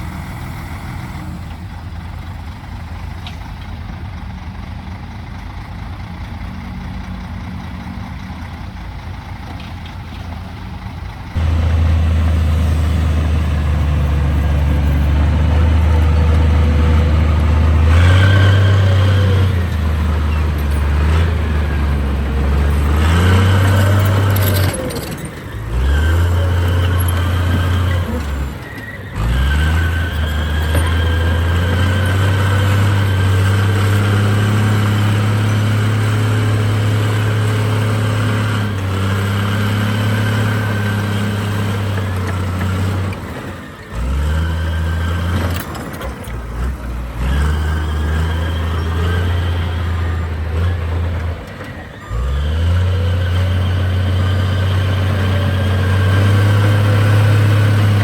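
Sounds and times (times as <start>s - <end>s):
diesel construction machinery engine: 0.0s - 58.0s.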